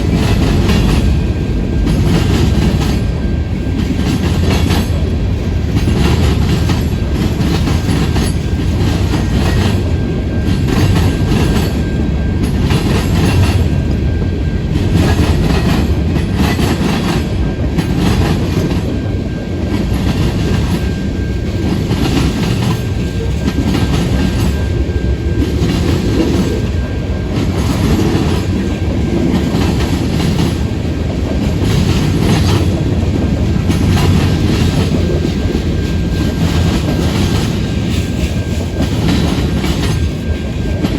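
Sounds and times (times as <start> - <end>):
freight train rumbling past: 0.0 - 40.9
wheels clacking over rail joints: 0.0 - 40.9.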